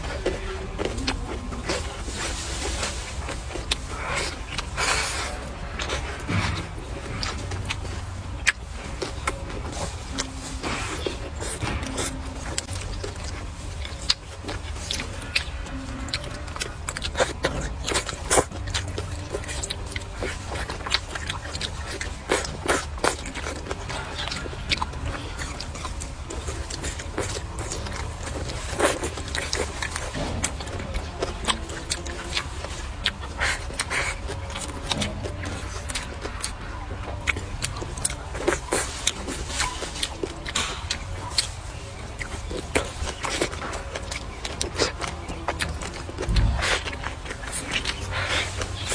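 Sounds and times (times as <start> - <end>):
crunching and chewing food: 0.0 - 48.9
steady low hum: 0.0 - 48.9.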